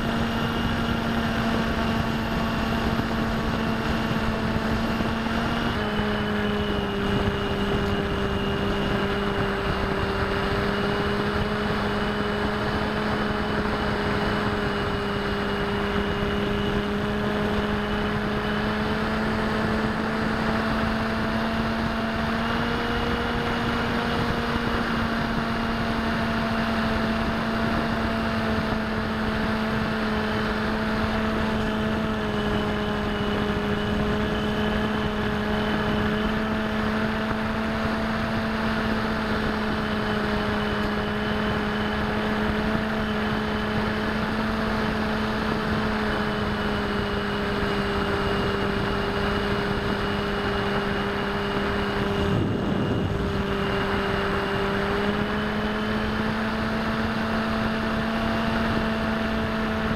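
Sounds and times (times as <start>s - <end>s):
electric motor and propeller hum: 0.0s - 59.9s.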